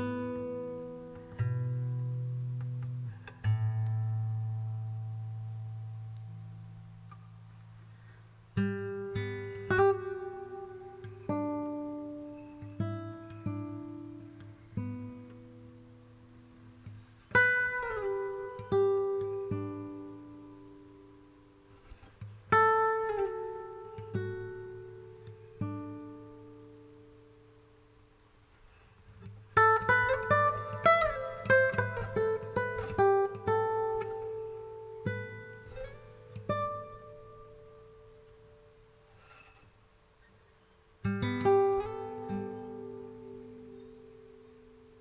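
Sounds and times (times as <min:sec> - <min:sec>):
plucked acoustic guitar: 0:00.0 - 0:27.6, 0:28.5 - 0:45.0.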